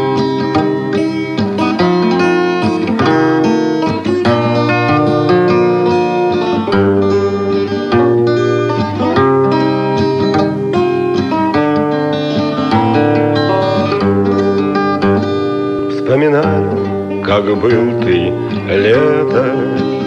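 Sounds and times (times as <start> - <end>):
held accompanying notes: 0.0 - 20.0
plucked guitar-like melody: 0.0 - 20.0.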